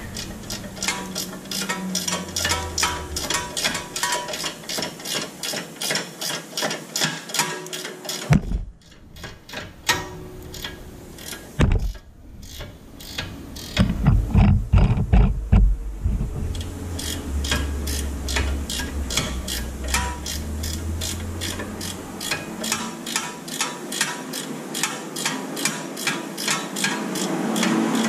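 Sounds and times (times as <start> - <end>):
ratcheting wrench clicking: 0.0 - 13.9, 16.5 - 28.0.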